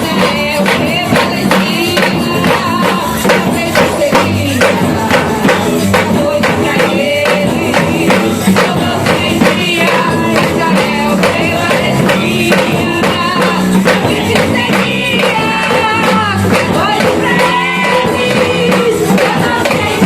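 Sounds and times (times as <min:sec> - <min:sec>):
drums and tambourine beat: 0:00.0 - 0:20.0
person singing: 0:00.0 - 0:20.0.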